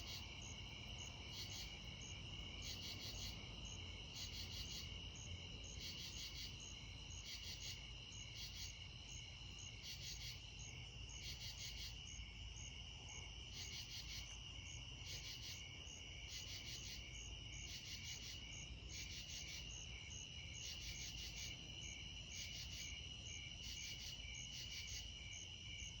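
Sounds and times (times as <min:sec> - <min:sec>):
rapid pulsed insect chirps: 0:00.0 - 0:26.0
steady high insect trill: 0:00.0 - 0:26.0.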